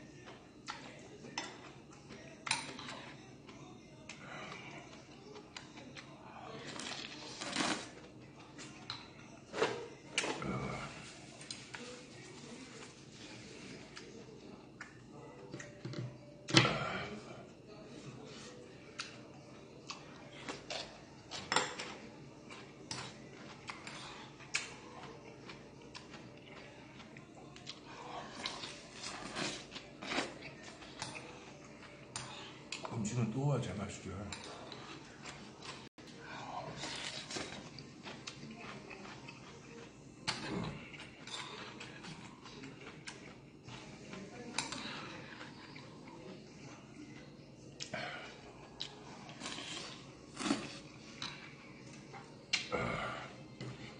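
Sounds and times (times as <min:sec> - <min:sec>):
soft eating sounds: 0:00.0 - 0:53.9
chewing and slurping: 0:00.2 - 0:14.2, 0:18.4 - 0:32.9, 0:34.3 - 0:52.7.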